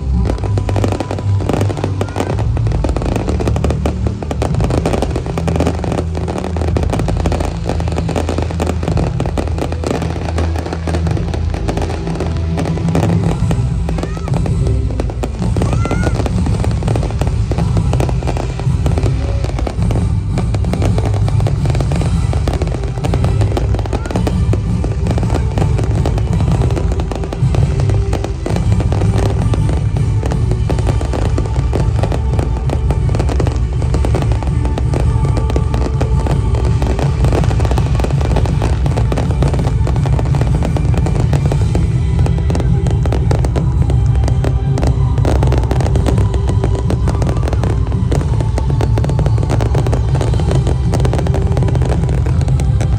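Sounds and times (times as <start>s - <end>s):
fireworks crackling and banging: 0.0s - 52.9s
loud music: 0.0s - 52.9s.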